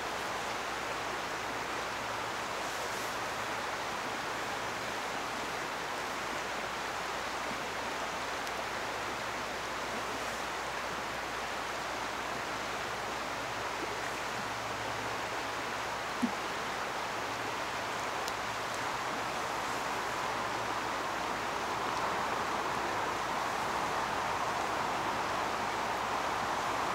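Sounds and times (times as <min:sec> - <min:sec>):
river water rushing: 0:00.0 - 0:26.9.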